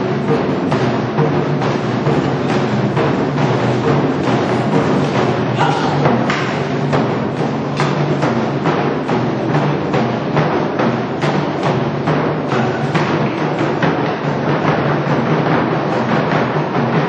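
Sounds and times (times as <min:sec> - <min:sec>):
drumming ensemble playing: 0:00.0 - 0:17.0.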